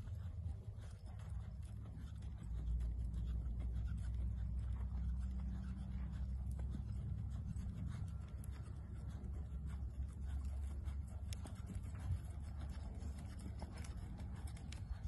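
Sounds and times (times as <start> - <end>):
horse hooves thudding in dirt: 0.0 - 15.0
steady low rumble: 0.0 - 15.0.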